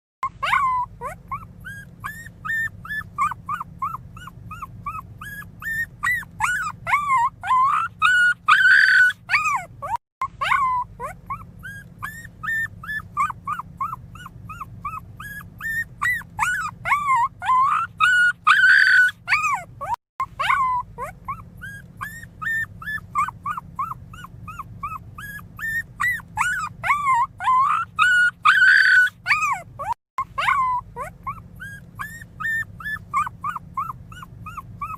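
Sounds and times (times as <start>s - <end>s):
puppy whimpering and squealing: 0.2s - 34.9s.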